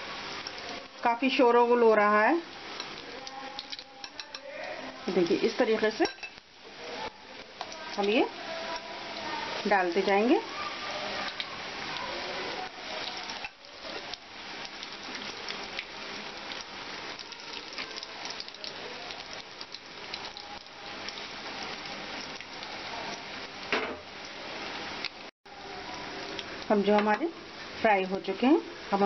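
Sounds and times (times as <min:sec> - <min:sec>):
food deep-frying in oil: 0:00.0 - 0:29.0.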